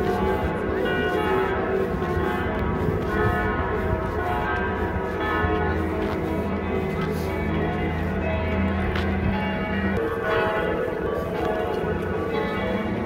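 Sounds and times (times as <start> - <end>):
church bells pealing: 0.0 - 13.0.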